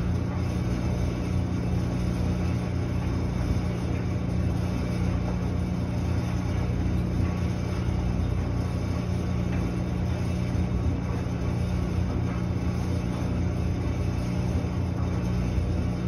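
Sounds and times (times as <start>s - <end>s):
clothes dryer humming: 0.0s - 16.0s.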